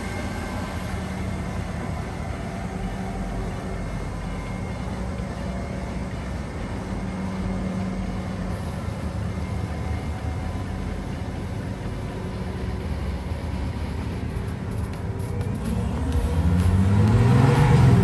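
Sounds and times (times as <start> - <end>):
pickup engine running: 0.0 - 18.0.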